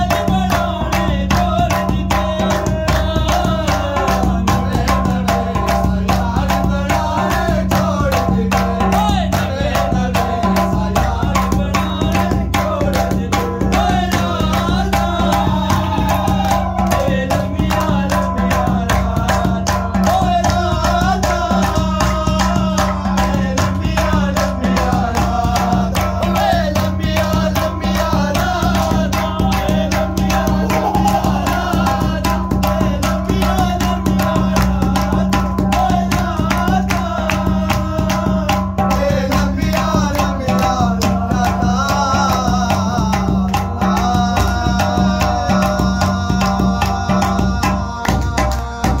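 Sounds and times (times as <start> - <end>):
hand drumming on metal pot: 0.0 - 49.0
man singing: 0.0 - 49.0.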